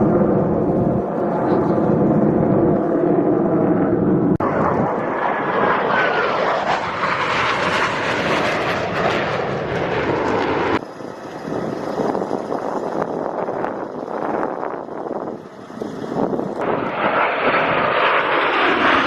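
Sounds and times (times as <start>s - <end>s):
jet engines in flight: 0.0s - 19.0s.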